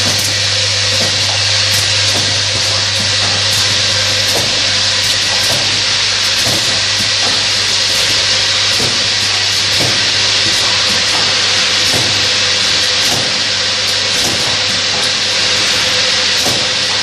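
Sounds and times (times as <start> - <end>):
machine hiss: 0.0 - 17.0.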